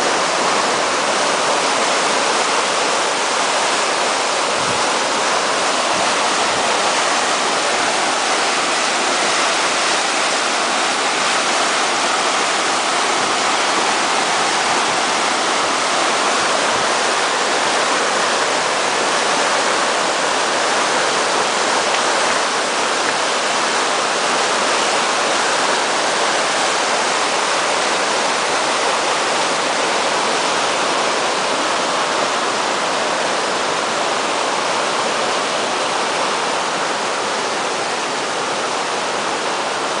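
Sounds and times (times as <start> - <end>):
river water rushing over weir: 0.0 - 40.0.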